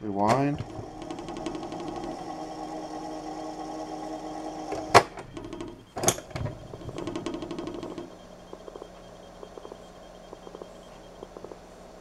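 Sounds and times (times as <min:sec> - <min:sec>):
tape motor whirring and ticking: 0:00.3 - 0:12.0.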